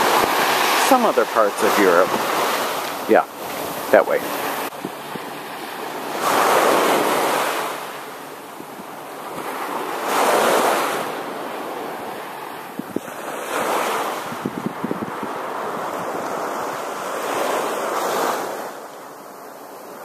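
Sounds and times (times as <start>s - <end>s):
wind buffeting microphone: 0.0s - 18.7s
small waves washing on sand: 0.0s - 20.0s.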